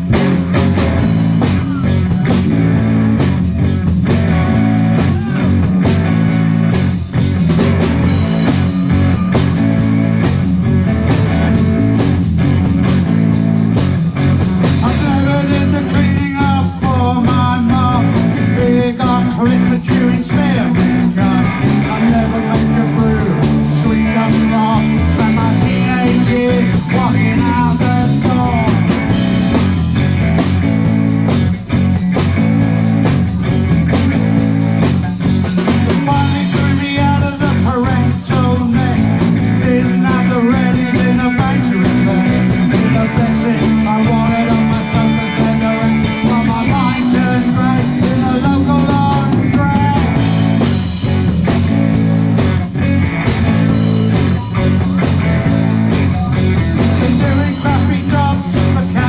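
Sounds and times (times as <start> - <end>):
electric guitar lines: 0.0 - 59.0
rock band playing live: 0.0 - 59.0
steady drum beat: 0.0 - 59.0.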